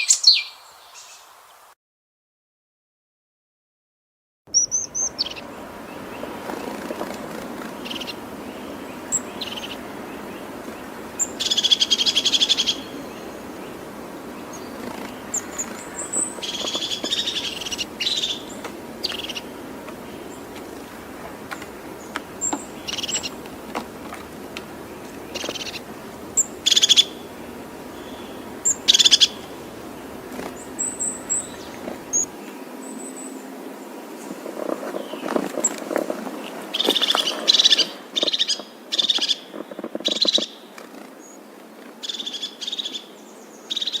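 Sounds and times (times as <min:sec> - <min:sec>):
birds calling: 0:00.0 - 0:01.3, 0:04.5 - 0:44.0.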